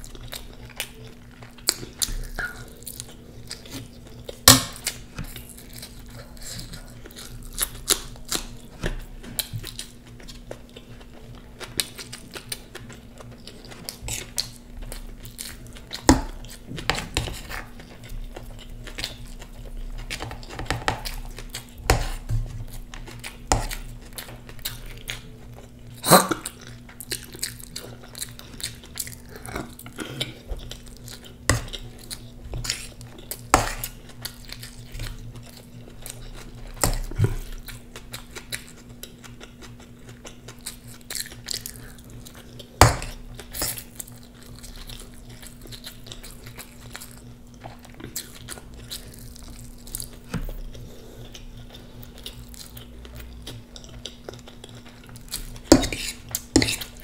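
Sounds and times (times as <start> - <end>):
chewing and crunching food: 0.0 - 57.0
low steady hum: 0.0 - 57.0.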